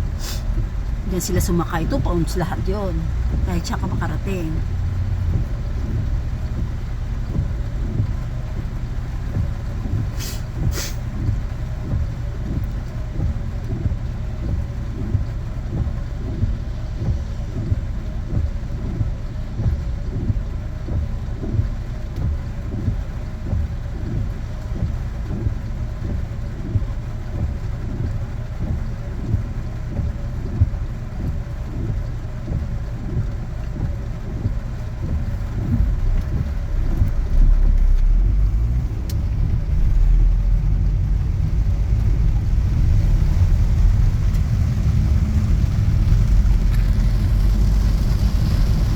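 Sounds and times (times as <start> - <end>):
car road noise: 0.0 - 48.9.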